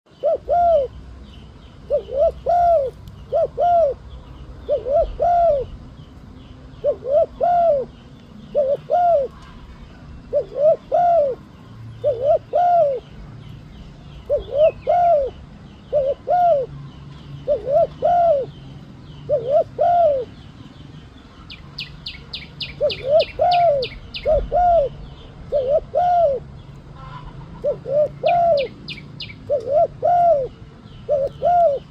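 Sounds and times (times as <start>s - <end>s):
dove cooing: 0.1s - 1.0s, 1.8s - 5.8s, 6.7s - 9.6s, 10.2s - 13.2s, 14.2s - 16.8s, 17.4s - 20.4s, 21.5s - 26.6s, 27.3s - 31.9s
small birds chirping: 0.1s - 31.9s.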